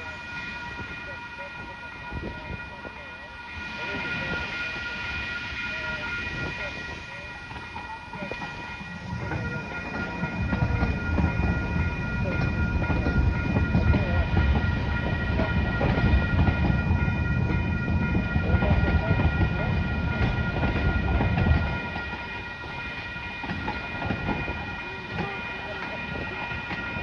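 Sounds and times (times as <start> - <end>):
steady high tones: 0.0 - 27.0
train wheels rumbling: 0.0 - 27.0.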